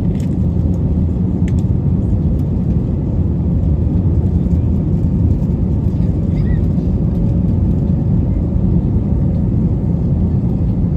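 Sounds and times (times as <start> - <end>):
airliner cabin rumble: 0.0 - 10.9.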